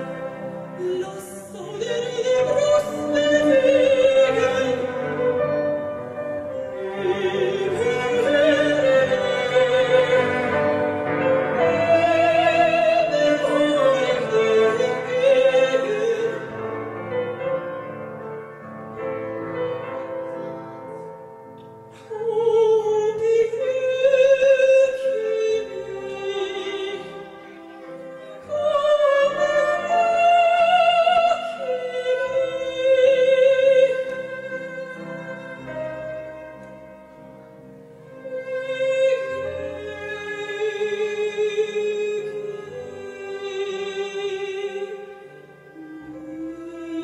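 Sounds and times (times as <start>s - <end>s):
instrumental backing music: 0.0s - 47.0s.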